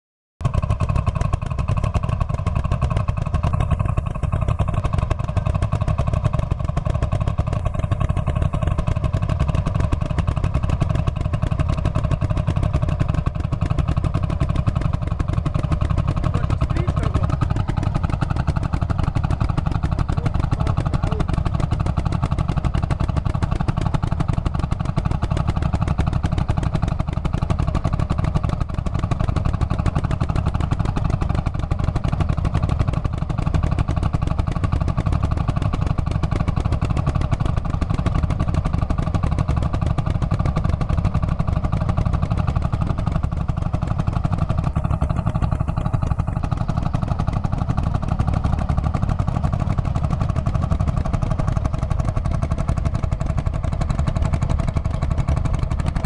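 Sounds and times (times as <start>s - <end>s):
tractor engines running: 0.4s - 56.0s.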